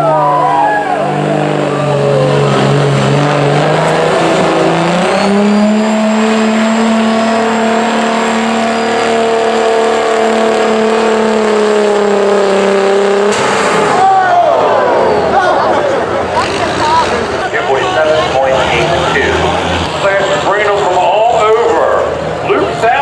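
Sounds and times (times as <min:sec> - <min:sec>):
diesel engine at full throttle: 0:00.0 - 0:23.0.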